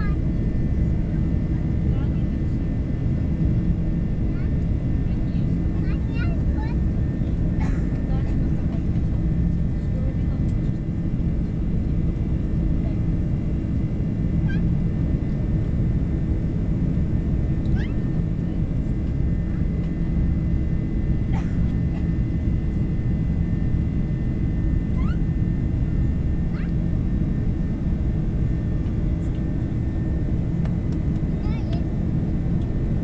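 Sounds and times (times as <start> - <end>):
faint steady whine: 0.0 - 33.0
jet engine and airflow rumble: 0.0 - 33.0.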